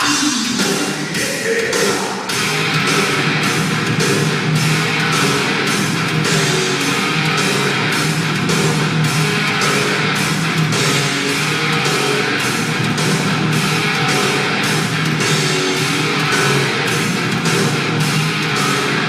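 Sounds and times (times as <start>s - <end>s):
heavy rock music: 0.0s - 19.0s.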